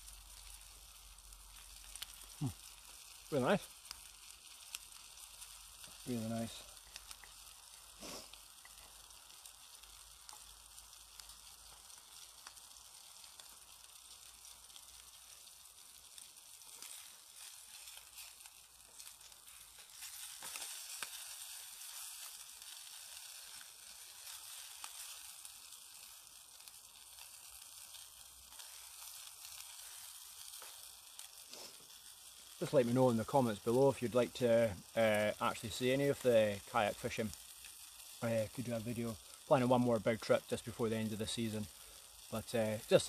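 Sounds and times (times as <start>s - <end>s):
food sizzling in a frying pan: 0.0s - 43.0s
wood stove ticks and crackles: 0.0s - 43.0s.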